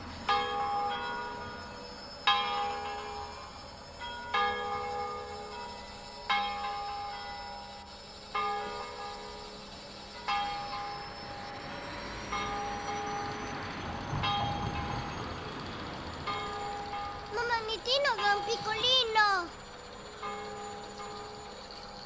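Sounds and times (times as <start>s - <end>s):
church bell tolling: 0.0s - 7.6s, 8.4s - 22.0s.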